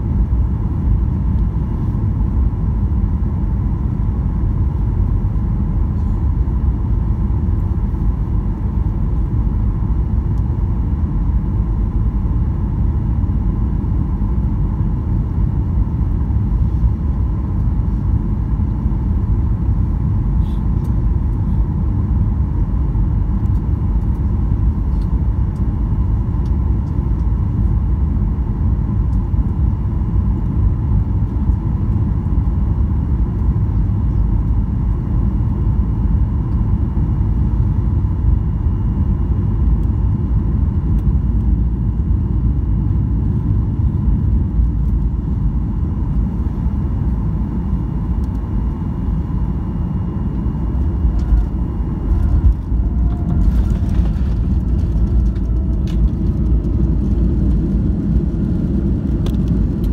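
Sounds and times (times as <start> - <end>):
aircraft engine and airflow rumble: 0.0 - 59.9.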